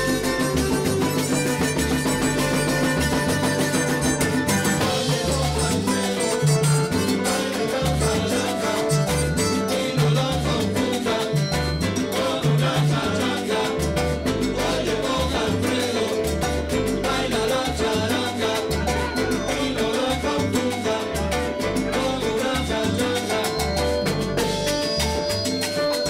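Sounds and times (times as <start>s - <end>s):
hand percussion: 0.0s - 26.0s
salsa band playing: 0.0s - 26.0s
upright bass notes: 0.0s - 26.0s.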